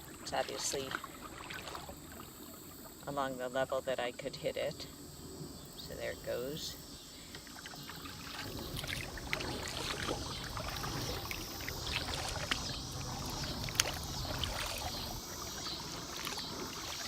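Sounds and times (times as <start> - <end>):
water splashing and trickling: 0.0 - 4.7, 5.8 - 17.0.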